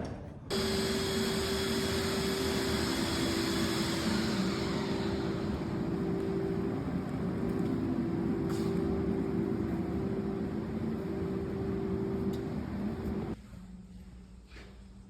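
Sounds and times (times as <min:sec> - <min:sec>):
machine humming: 0:00.5 - 0:13.4.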